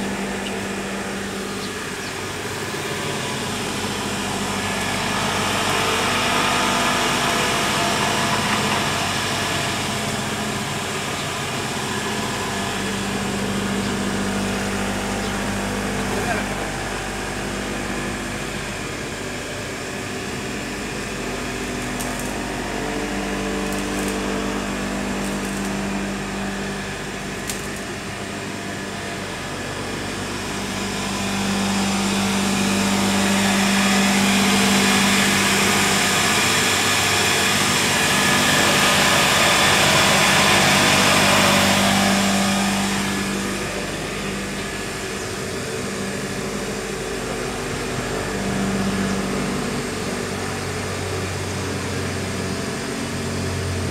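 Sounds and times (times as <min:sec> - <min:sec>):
electric motor hum: 0:00.0 - 0:53.9.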